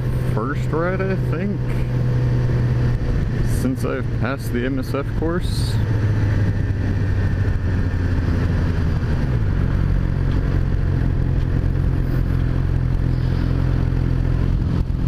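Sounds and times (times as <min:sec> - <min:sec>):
motorcycle engine running: 0:00.0 - 0:15.0
wind noise: 0:01.6 - 0:15.0.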